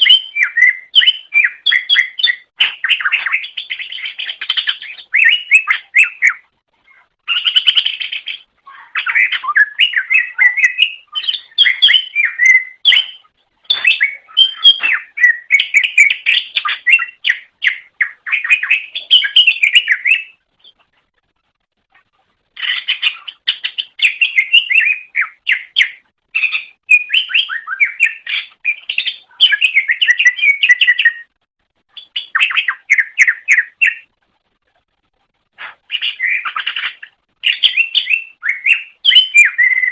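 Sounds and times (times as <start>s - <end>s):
bird singing chattering song: 0.0s - 20.9s, 22.6s - 34.1s, 35.6s - 39.9s.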